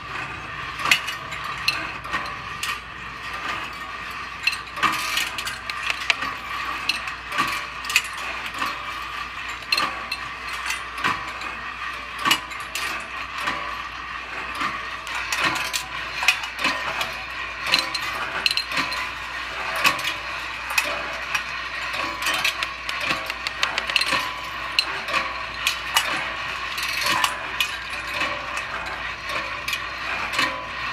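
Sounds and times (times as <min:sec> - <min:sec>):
steady hum: 0:00.0 - 0:30.9
steel balls clicking on wire tracks: 0:00.0 - 0:30.9.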